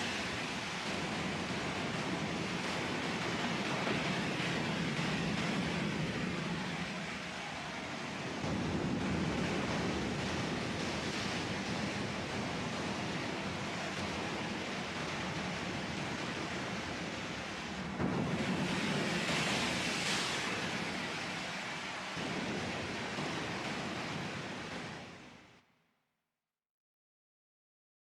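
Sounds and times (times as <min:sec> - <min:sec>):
ocean waves: 0:00.0 - 0:25.4.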